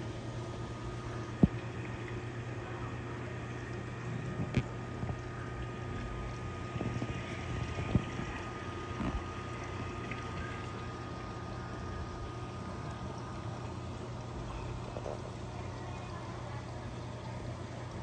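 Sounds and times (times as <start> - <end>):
aquarium pumps and water hum: 0.0 - 18.0.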